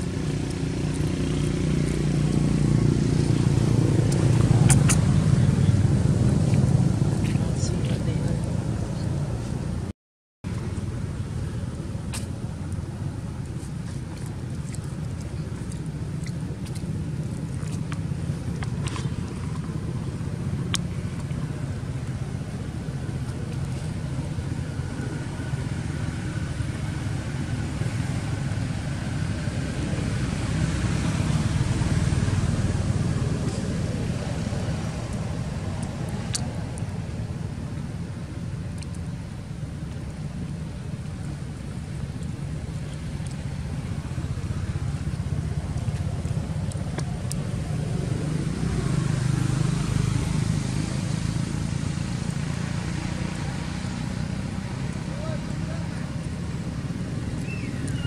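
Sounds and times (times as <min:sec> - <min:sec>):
distant traffic rumble: 0:00.0 - 0:58.0.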